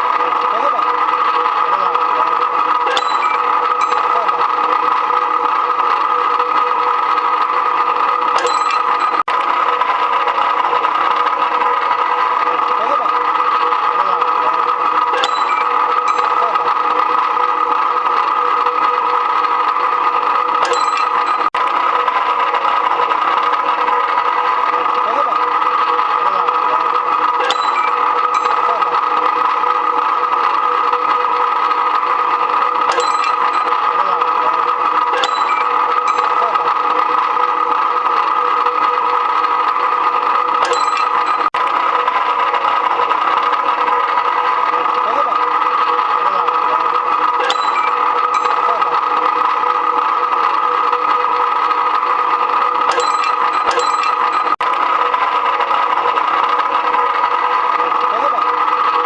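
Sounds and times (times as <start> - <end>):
machine motor and gear hum: 0.0 - 59.0.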